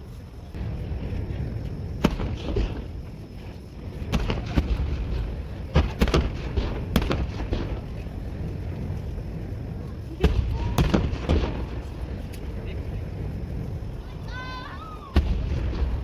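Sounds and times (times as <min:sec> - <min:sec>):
low rumble: 0:00.4 - 0:16.0
fireworks bangs: 0:00.6 - 0:16.0.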